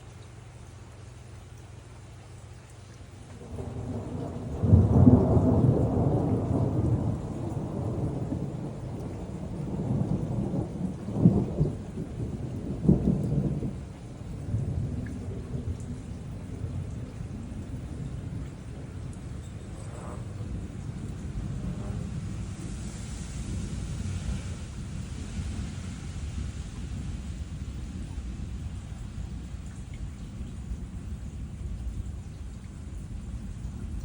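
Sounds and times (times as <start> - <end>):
steady rain: 0.0 - 34.0
thunder rumbling: 3.3 - 34.0
sharp thunder claps: 3.4 - 34.0.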